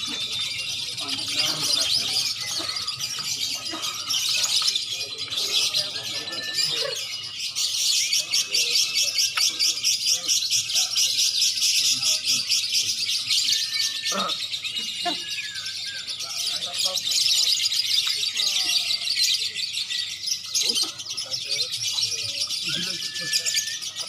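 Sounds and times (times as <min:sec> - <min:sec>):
songbirds chattering trill: 0:00.0 - 0:24.0.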